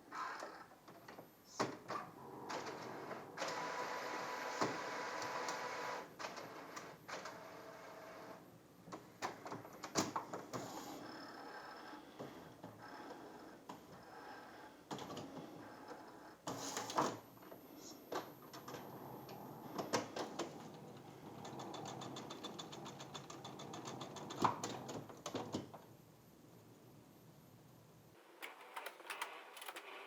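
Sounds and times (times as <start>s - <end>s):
printer motors and gears whirring: 0.0s - 25.7s, 28.2s - 30.0s.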